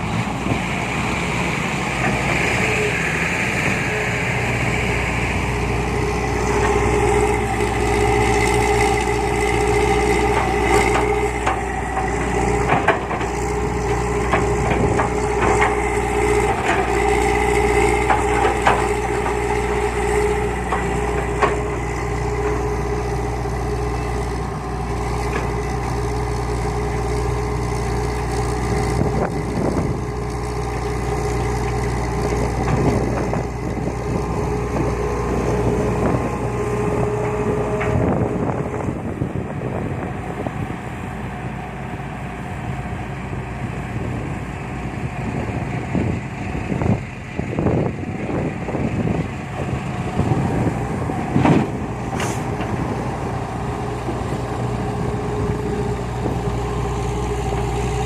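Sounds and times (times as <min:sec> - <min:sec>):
excavator engine drone: 0:00.0 - 0:58.0.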